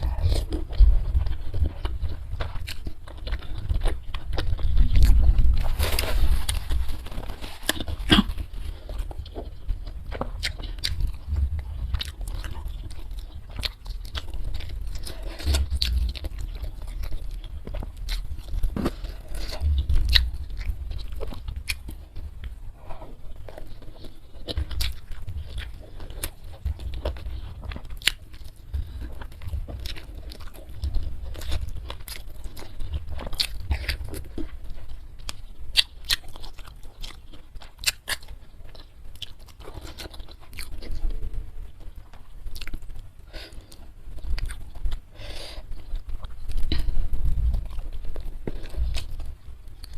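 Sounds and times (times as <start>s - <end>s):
person chewing and crunching food: 0.0s - 49.9s.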